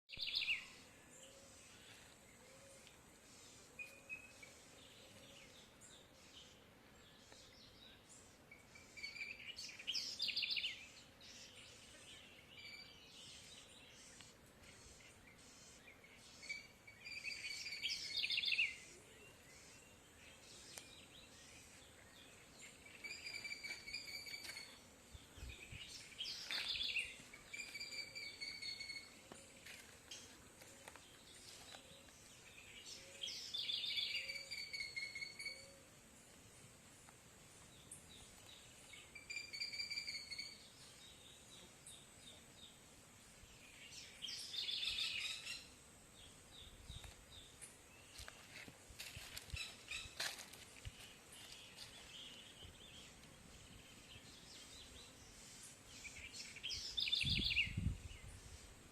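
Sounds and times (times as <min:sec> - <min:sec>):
faint steady hiss: 0:00.2 - 0:58.9.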